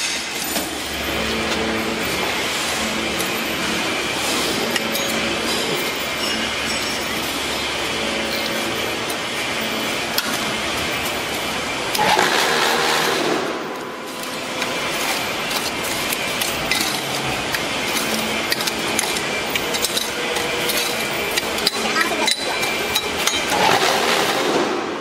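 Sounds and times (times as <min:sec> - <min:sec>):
metal clinks and scraping: 0:00.0 - 0:12.2, 0:13.7 - 0:24.2
loud rushing noise: 0:00.0 - 0:21.4, 0:22.7 - 0:25.0
block machine running: 0:00.0 - 0:25.0.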